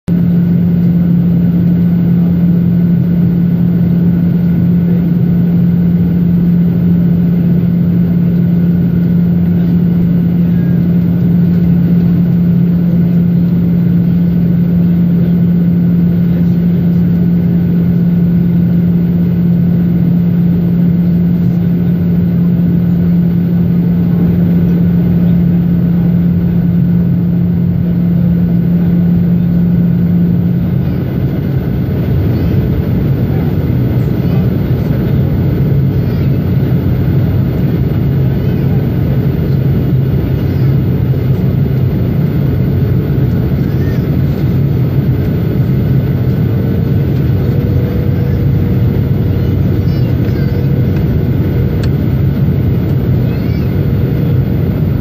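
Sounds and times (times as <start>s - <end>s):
strong low hum: 0.0s - 55.0s
jet engines droning: 0.1s - 55.0s.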